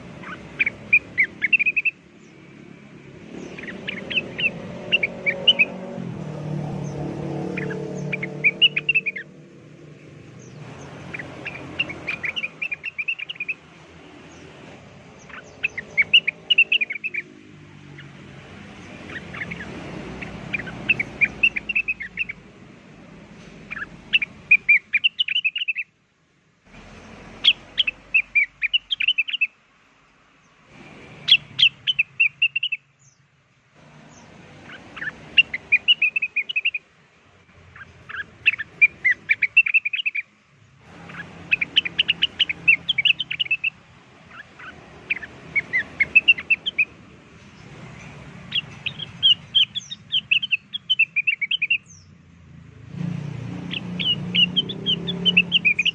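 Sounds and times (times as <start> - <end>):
rapid high bird chirps: 0.0 - 26.0, 26.8 - 29.6, 30.4 - 55.9.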